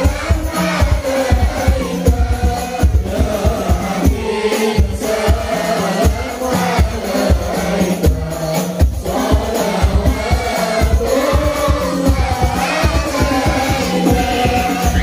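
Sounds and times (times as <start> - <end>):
low frame drum beats: 0.0 - 15.0
men singing in unison: 0.0 - 15.0.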